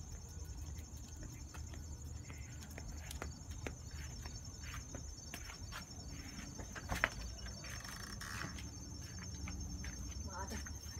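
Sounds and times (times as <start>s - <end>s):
insects trilling: 0.0s - 10.9s.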